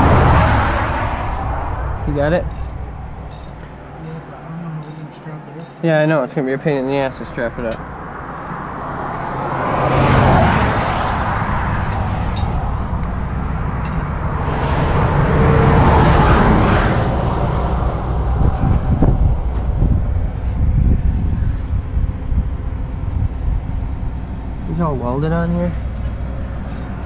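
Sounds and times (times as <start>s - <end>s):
steady low traffic rumble: 0.0s - 27.0s
vehicles passing: 0.0s - 27.0s.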